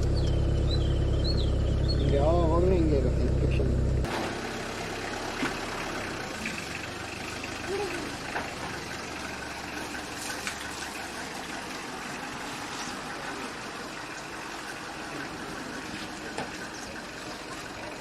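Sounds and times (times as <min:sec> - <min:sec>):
vehicle running: 0:00.0 - 0:18.0.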